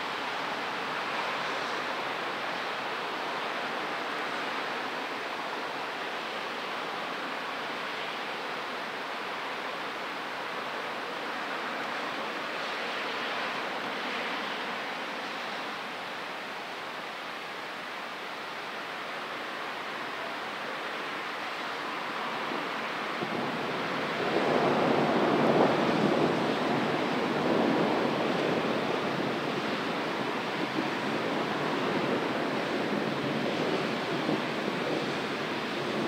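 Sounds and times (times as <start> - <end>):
rain: 0.0 - 36.0
wind: 0.0 - 36.0.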